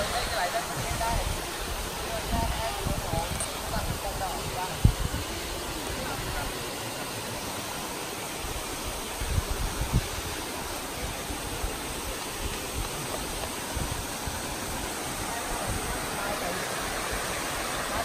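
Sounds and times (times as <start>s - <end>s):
waterfall rushing into pool: 0.0s - 18.0s.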